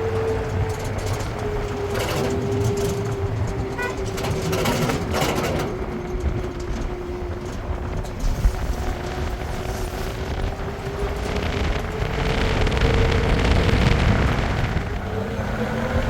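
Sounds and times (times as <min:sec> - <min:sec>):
vehicle rumble and whine: 0:00.0 - 0:16.0.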